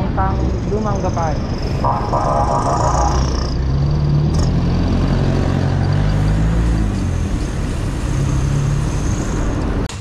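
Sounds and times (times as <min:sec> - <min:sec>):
vehicle engine humming: 0:00.0 - 0:09.9
steady low traffic rumble: 0:00.0 - 0:10.0.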